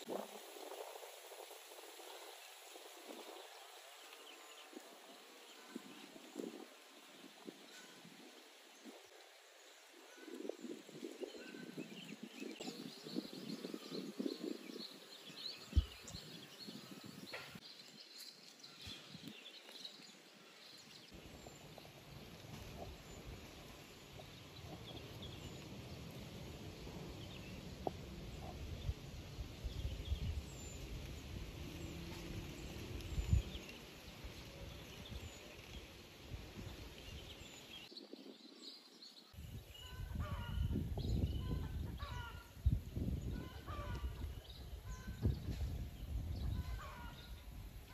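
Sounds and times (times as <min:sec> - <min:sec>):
birds chirping: 0:02.5 - 0:47.9.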